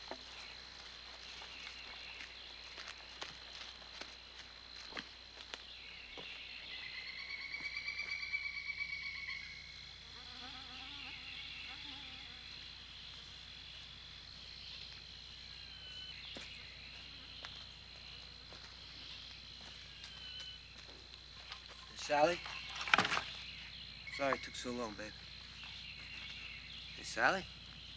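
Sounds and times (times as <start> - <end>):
insects chirring: 0.0 - 27.9
rapidly pulsing insect trill: 0.0 - 27.9.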